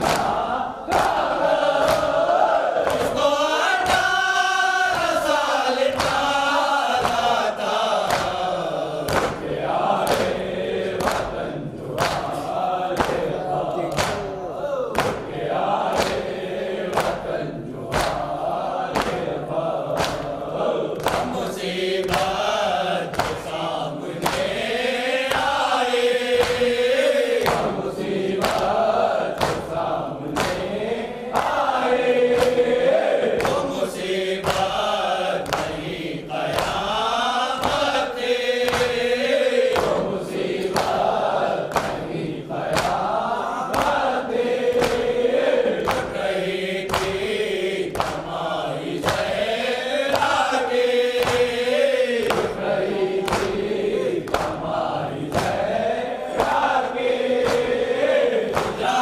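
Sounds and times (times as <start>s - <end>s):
group of men chanting: 0.0s - 59.0s
hands slapping on chests: 0.0s - 59.0s
man reciting into a microphone: 2.8s - 59.0s.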